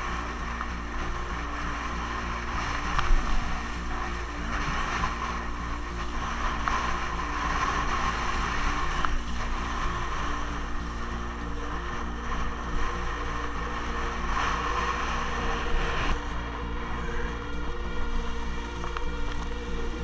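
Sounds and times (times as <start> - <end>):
wind blasting across microphone: 0.0 - 20.0.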